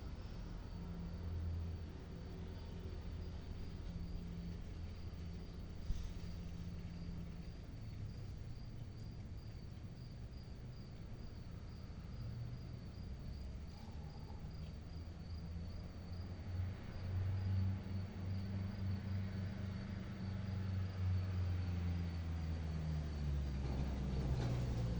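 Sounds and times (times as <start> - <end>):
cricket chirping: 0.0 - 24.9.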